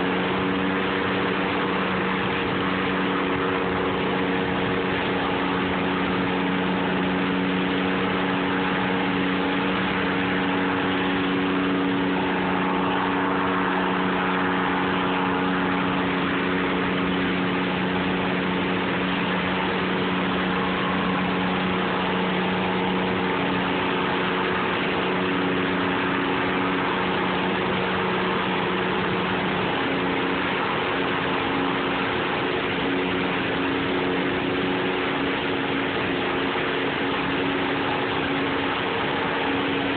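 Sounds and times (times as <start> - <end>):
boat engine running: 0.0 - 39.9
water rushing over dam: 0.0 - 39.9.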